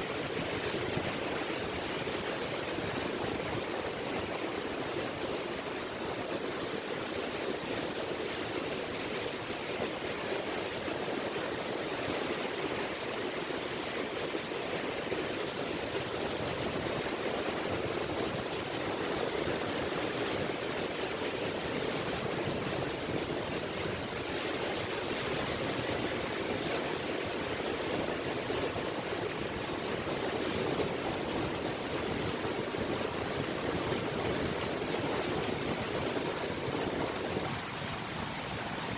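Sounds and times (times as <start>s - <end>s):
gentle waves washing on shore: 0.0s - 38.9s.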